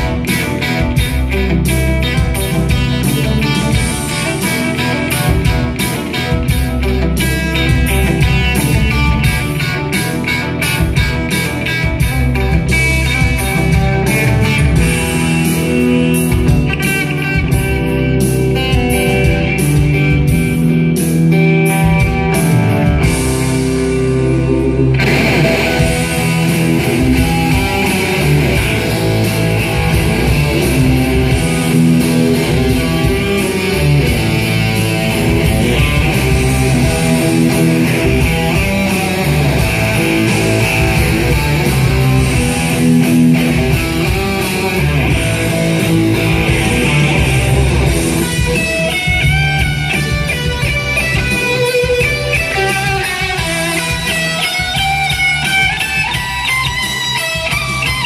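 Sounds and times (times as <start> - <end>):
fast electric guitar notes: 0.0 - 58.0
live rock instrumental: 0.0 - 58.0.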